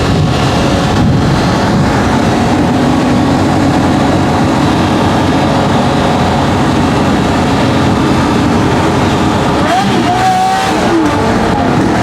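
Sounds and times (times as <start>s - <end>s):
loud sports car engine running: 0.0s - 12.0s.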